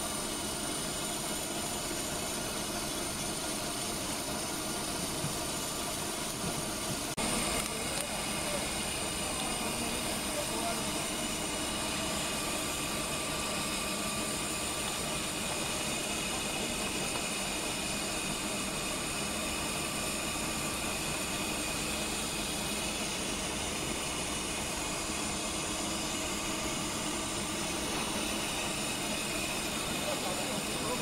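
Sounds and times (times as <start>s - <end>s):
lathe running with whining tones: 0.0s - 31.0s.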